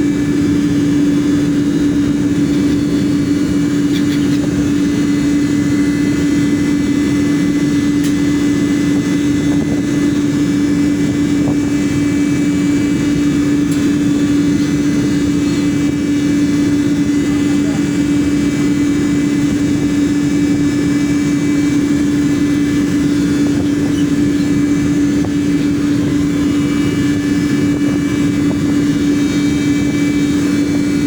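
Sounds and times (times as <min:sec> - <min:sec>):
engine drone: 0:00.0 - 0:31.0.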